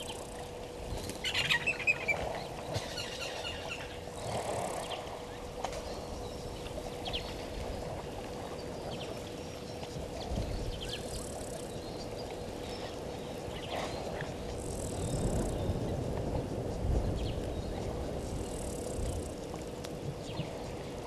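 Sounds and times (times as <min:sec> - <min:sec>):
faint constant hum: 0:00.0 - 0:21.0.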